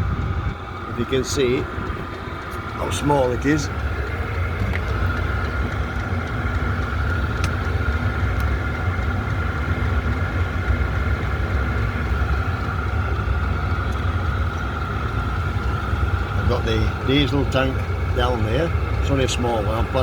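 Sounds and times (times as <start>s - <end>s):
diesel air heater running: 0.0s - 20.0s.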